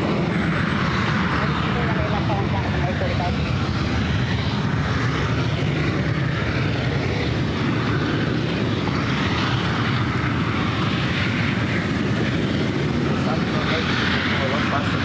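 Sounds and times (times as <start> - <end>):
jet aircraft engine rumble: 0.0 - 15.0.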